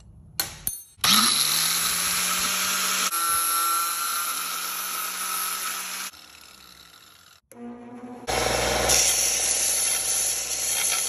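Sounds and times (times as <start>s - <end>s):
angle grinder cutting steel: 1.0s - 7.5s, 8.3s - 11.0s.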